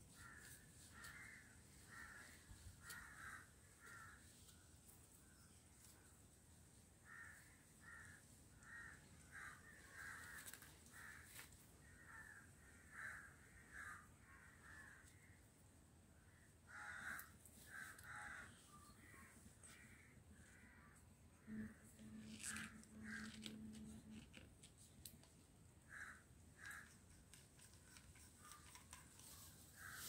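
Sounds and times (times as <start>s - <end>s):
faint harsh bird calls: 0.1s - 6.0s, 7.0s - 15.5s, 16.2s - 24.6s, 25.8s - 30.0s.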